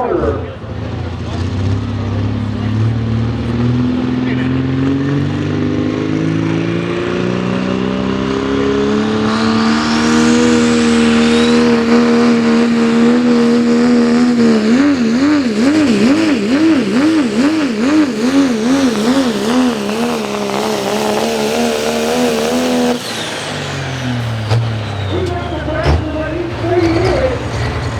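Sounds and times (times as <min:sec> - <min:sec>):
diesel truck engine at full throttle: 0:00.0 - 0:27.9.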